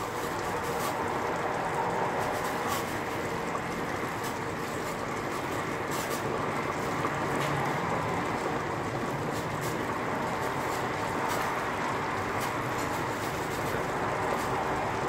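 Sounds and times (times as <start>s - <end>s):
sauce simmering in a frying pan: 0.0s - 15.0s.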